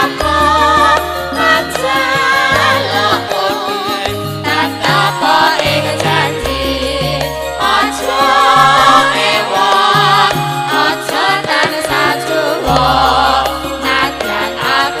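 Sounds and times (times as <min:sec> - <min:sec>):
instrumental music with bass: 0:00.0 - 0:15.0
person singing: 0:00.0 - 0:15.0.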